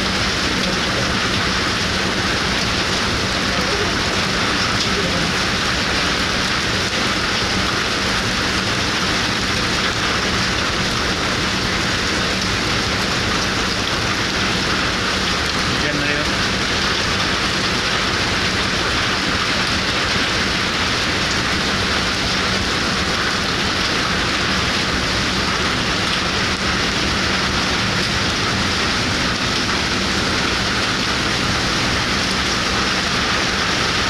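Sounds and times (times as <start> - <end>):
rain falling on deck and water: 0.0 - 34.0.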